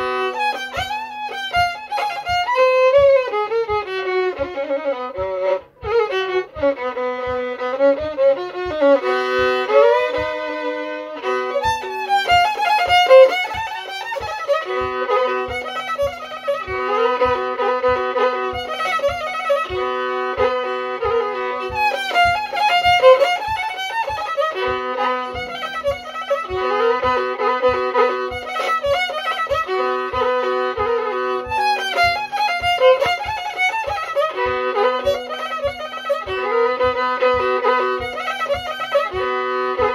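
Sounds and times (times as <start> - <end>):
fiddle bowing a melody: 0.0 - 39.9
steady low tapping: 0.0 - 39.9.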